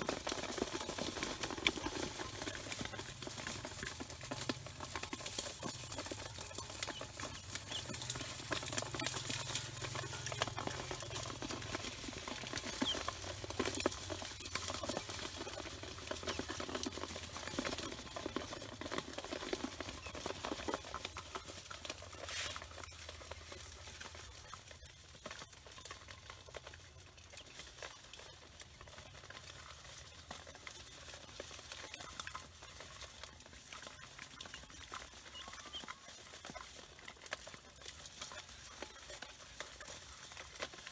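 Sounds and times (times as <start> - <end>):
ducklings bill clicks: 0.0 - 40.9
ducklings rustling: 0.0 - 40.9.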